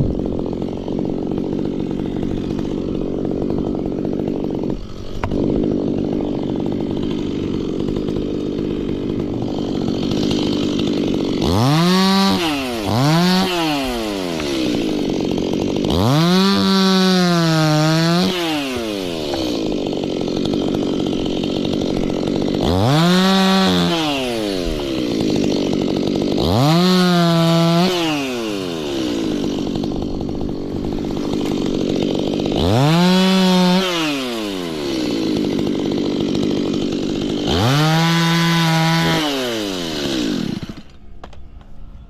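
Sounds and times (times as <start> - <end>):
chainsaw revving: 0.0 - 41.4.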